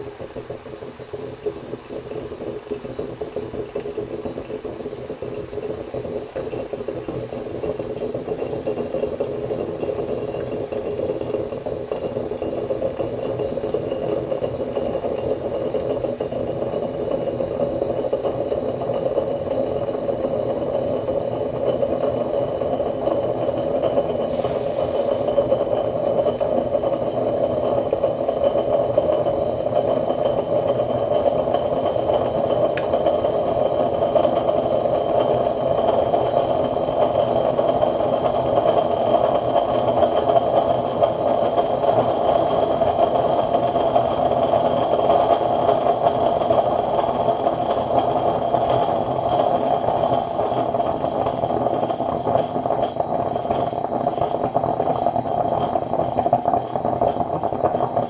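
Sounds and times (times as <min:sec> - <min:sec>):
coffee maker brewing: 0:00.0 - 0:58.0.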